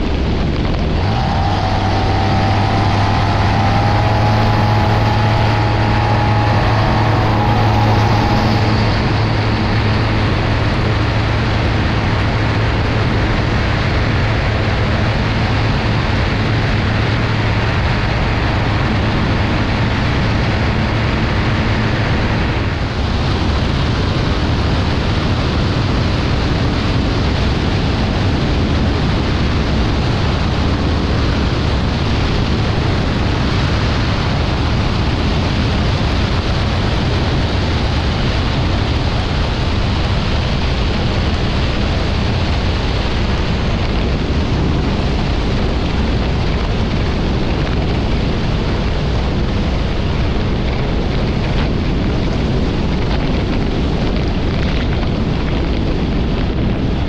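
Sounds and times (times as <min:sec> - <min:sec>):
aeroplane engine and propeller: 0:00.0 - 0:57.0
wind rushing over microphone: 0:00.0 - 0:57.0.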